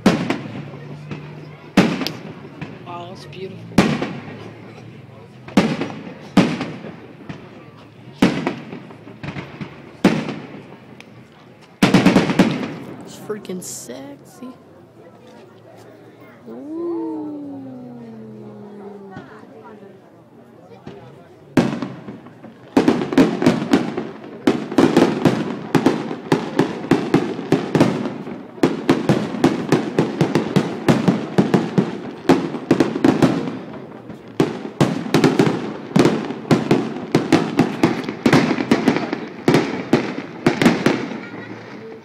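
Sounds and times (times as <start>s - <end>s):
fireworks bursting: 0.0s - 14.6s, 20.7s - 42.0s.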